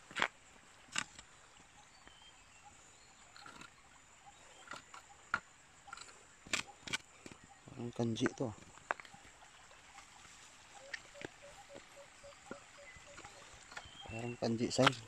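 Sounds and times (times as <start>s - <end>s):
outdoor background: 0.0s - 15.0s.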